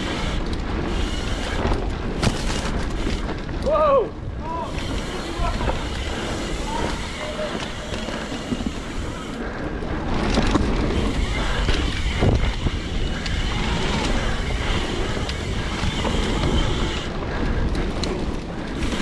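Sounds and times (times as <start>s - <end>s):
bike rattling and knocking: 0.0s - 19.0s
bike tyres rolling over dirt: 0.0s - 19.0s
wind on microphone: 0.0s - 19.0s.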